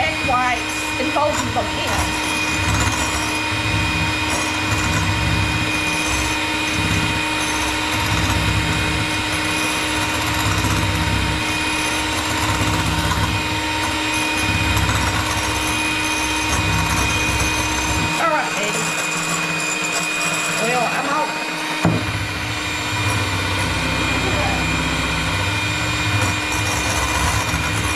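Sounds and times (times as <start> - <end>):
electric hand mixer whining: 0.0 - 27.9.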